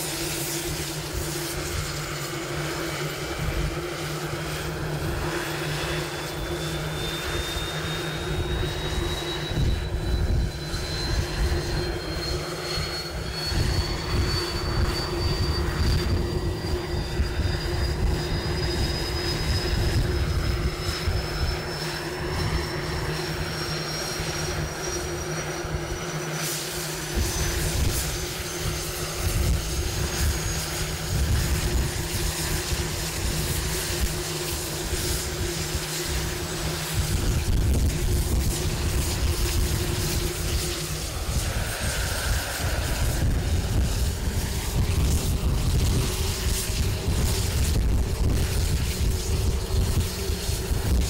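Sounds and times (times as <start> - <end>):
helicopter turbine whine: 0.0 - 51.0
rotor hum and rumble: 0.0 - 51.0.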